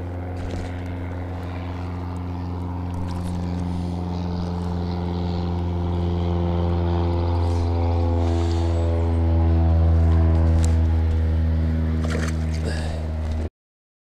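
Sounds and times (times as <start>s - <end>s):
engine drone: 0.0s - 13.5s.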